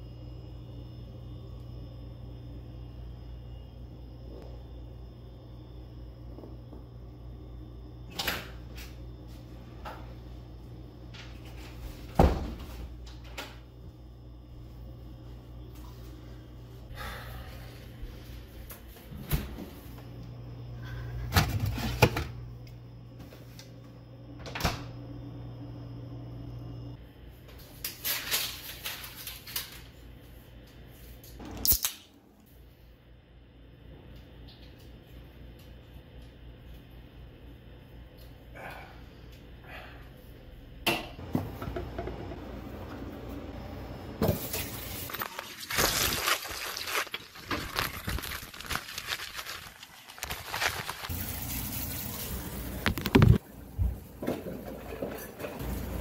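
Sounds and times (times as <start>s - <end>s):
refrigerator hum: 0.0s - 56.0s.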